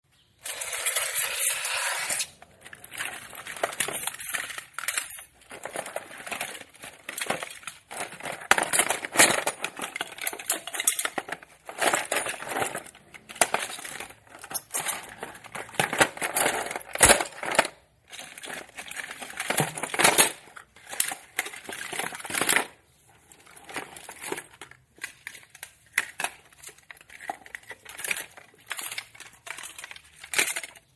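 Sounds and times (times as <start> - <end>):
objects knocking and clinking: 2.4 - 30.9.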